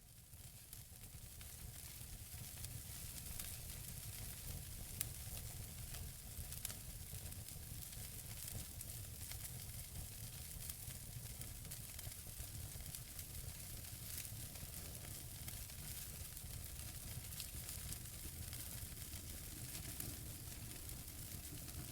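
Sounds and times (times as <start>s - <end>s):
wood fire crackling: 0.4s - 21.9s.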